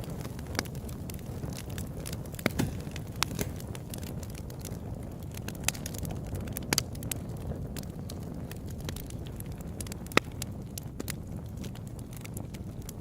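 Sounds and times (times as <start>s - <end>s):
burning wood crackling and popping: 0.0s - 13.0s
campfire flames rumbling: 0.0s - 13.0s.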